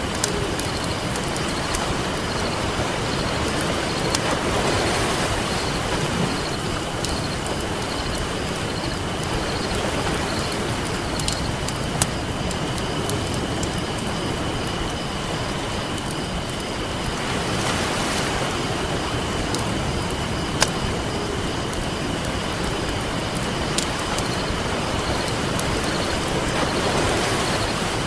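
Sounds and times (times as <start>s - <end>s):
campfire crackling and popping: 0.0s - 17.6s, 18.3s - 27.2s
ocean surf: 0.0s - 28.0s.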